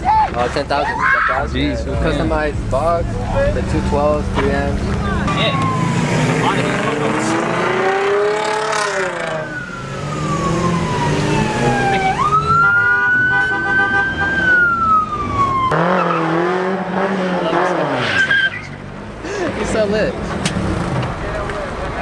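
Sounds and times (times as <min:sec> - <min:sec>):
tires squealing: 0:00.0 - 0:22.0
truck engine revving: 0:01.4 - 0:22.0.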